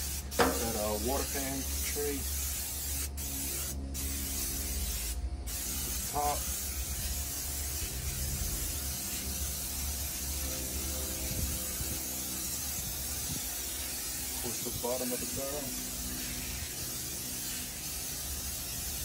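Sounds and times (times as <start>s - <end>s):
aerosol spray hissing: 0.0s - 19.0s.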